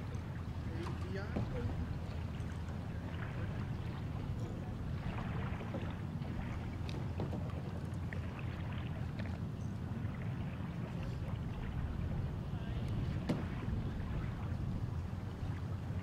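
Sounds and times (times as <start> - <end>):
boat engine idling: 0.0 - 16.0
kayaks and paddles knocking: 0.0 - 16.0.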